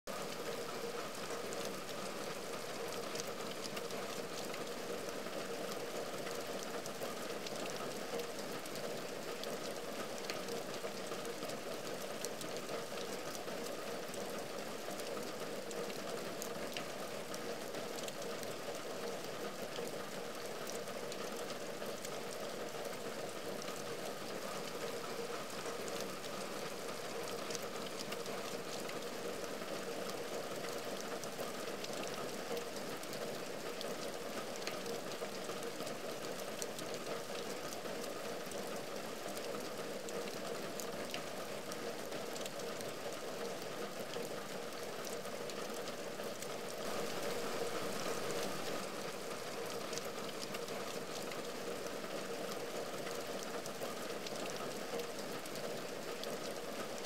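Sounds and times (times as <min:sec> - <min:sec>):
rain on a window pane: 0:00.1 - 0:57.0.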